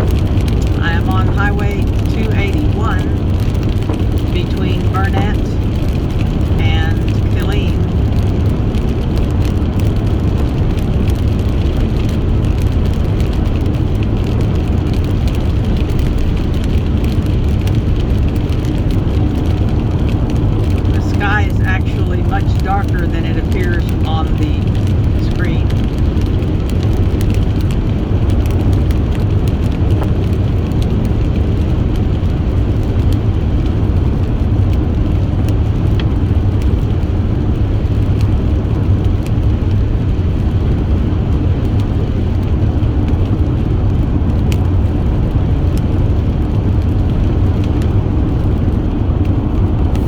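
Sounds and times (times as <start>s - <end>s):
car road and engine noise: 0.0s - 50.0s.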